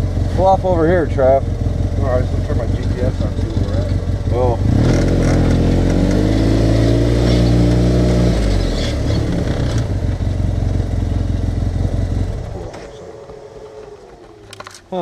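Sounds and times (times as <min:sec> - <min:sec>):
vehicle engine idling: 0:00.0 - 0:06.0, 0:08.5 - 0:15.0.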